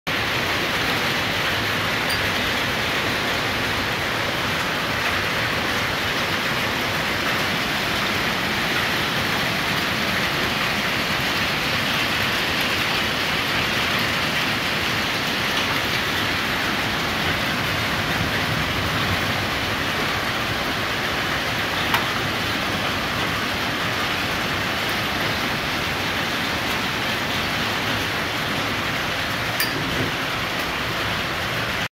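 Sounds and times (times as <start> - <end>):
rain hissing: 0.1 - 31.9.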